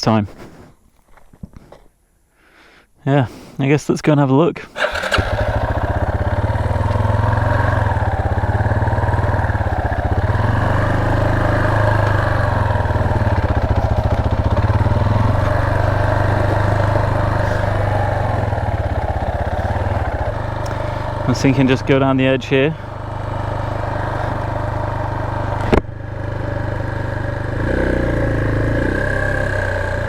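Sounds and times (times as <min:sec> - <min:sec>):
motorcycle engine running: 0:04.8 - 0:30.0.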